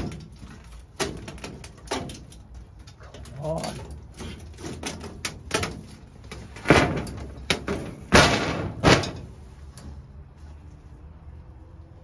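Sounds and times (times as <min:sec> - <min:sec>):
rattling scrapes of roof panels: 0:00.0 - 0:10.0.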